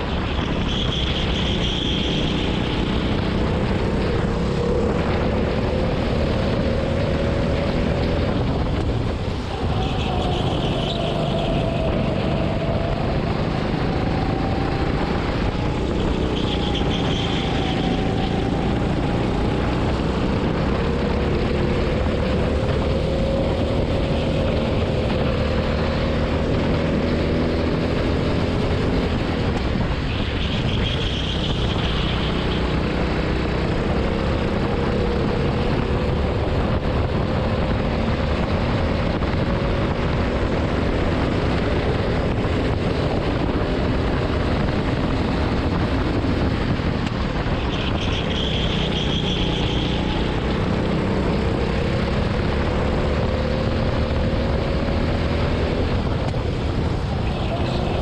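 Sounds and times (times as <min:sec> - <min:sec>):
go-kart engine accelerating: 0:00.0 - 0:58.0
wind and road noise: 0:00.0 - 0:58.0.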